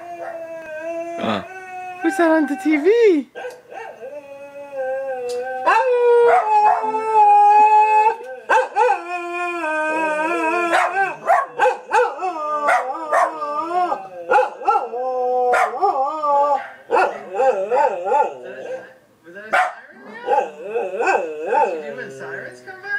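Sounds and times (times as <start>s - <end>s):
dog howling: 0.0s - 19.0s, 19.9s - 22.7s.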